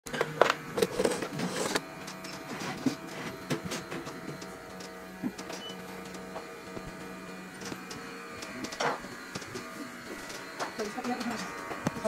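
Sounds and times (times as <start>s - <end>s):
electrical hum: 0.1s - 12.0s.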